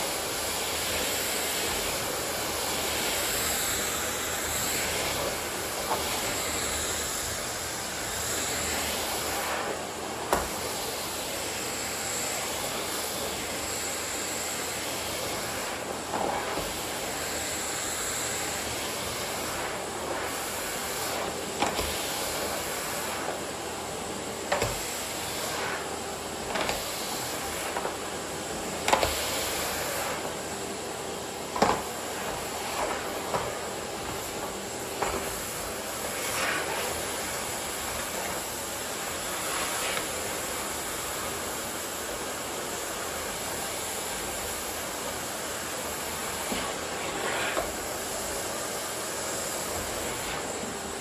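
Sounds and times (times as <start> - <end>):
vacuum cleaner whining: 0.0 - 51.0.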